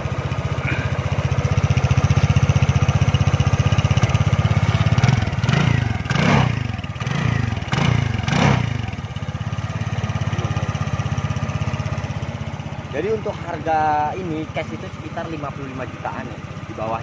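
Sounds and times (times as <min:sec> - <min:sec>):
scooter engine idling: 0:00.0 - 0:17.0
scooter engine revving: 0:00.0 - 0:17.0.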